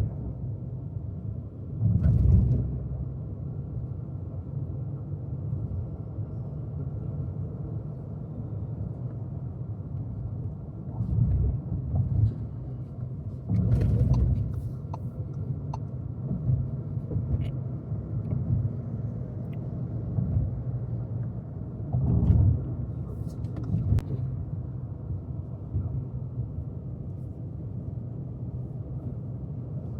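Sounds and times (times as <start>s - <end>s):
car engine and tyres rumbling: 0.0s - 29.9s.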